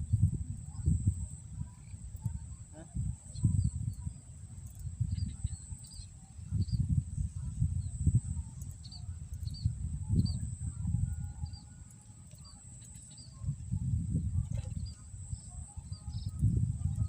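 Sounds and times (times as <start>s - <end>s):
wind rumble on microphone: 0.0s - 17.0s
small birds chirping: 0.1s - 17.0s.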